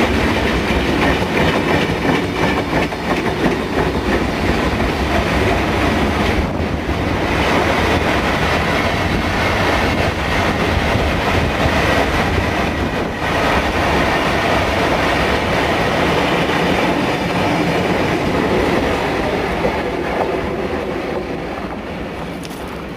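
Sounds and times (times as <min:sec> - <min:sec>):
train wagons rolling past: 0:00.0 - 0:22.9.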